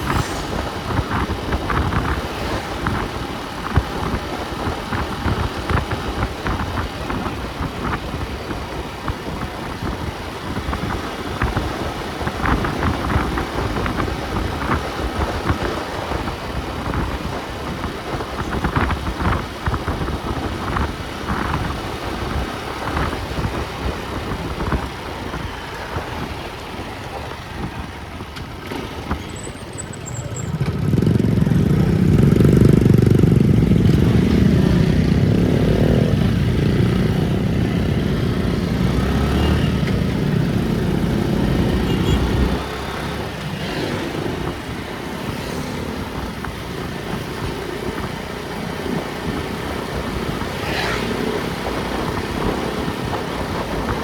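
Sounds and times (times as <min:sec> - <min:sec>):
vehicle road and engine noise: 0:00.0 - 0:54.0.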